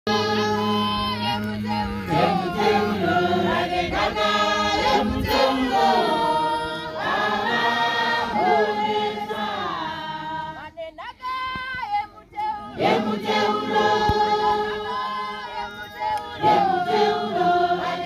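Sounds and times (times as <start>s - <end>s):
congregation singing a hymn: 0.1s - 10.9s, 12.4s - 18.0s.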